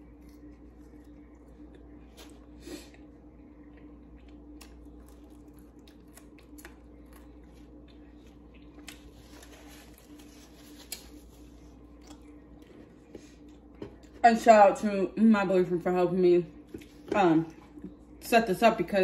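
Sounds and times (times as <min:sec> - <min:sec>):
crackles of eating fried food: 0:00.0 - 0:14.5, 0:15.9 - 0:18.3
low hum: 0:00.0 - 0:19.0.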